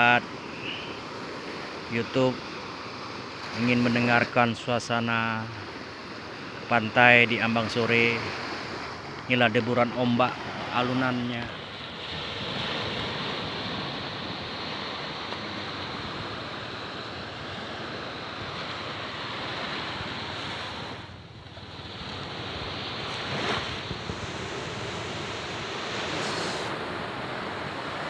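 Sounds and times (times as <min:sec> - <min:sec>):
waves washing onto sandy beach: 0:00.0 - 0:28.0.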